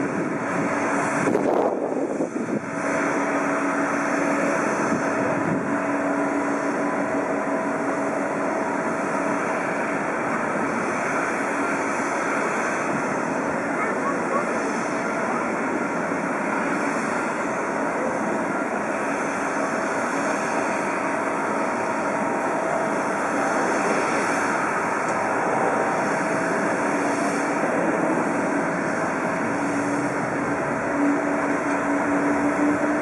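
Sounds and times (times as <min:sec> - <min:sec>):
jet engines whining: 0:00.0 - 0:33.0
low hum: 0:00.0 - 0:33.0.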